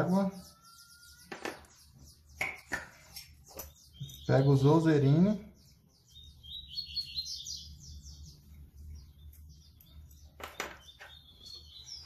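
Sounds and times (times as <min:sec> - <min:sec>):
small songbird chirping: 0:00.0 - 0:12.0.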